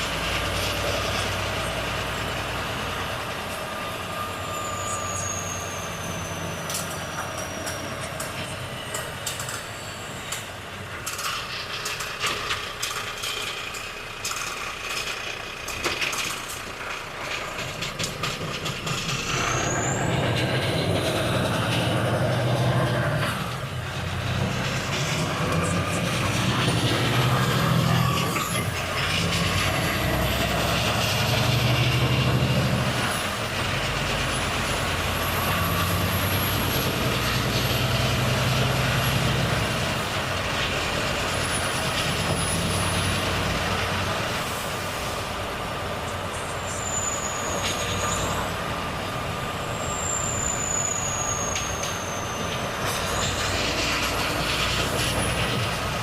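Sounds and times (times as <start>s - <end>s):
truck diesel engine droning: 0.0s - 56.0s.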